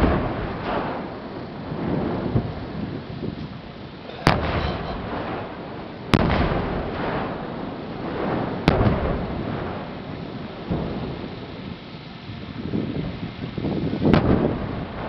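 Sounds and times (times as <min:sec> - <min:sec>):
crackling sparks: 0:00.0 - 0:15.0
fireworks booming: 0:00.0 - 0:15.0.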